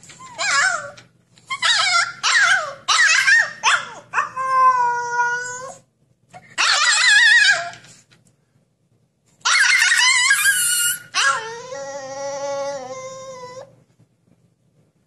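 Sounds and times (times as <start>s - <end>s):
puppy howling and whining: 0.1s - 7.8s, 9.5s - 13.8s.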